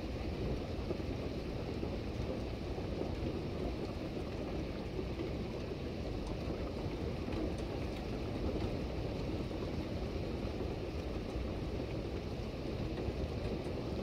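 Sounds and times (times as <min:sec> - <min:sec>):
rain falling on a wet street: 0:00.0 - 0:14.0.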